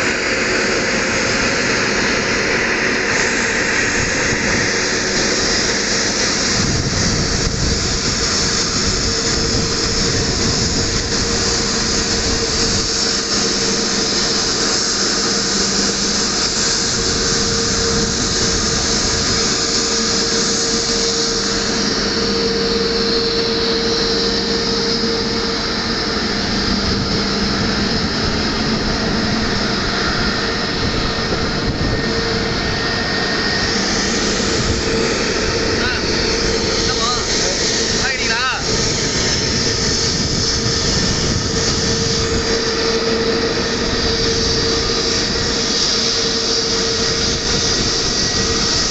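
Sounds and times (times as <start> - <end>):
jet engines hissing and whining: 0.0 - 48.9.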